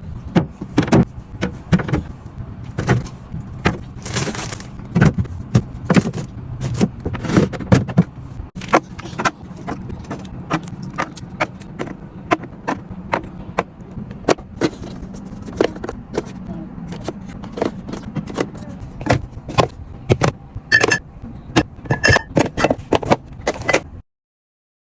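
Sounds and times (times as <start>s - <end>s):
groceries clattering being handled: 0.0s - 24.0s
steady low hum: 0.0s - 24.0s.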